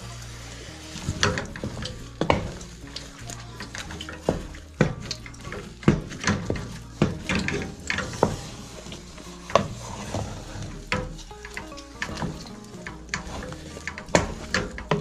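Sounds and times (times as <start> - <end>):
wooden stick stirring porridge: 0.0 - 15.0
stick knocking against pot: 1.1 - 15.0.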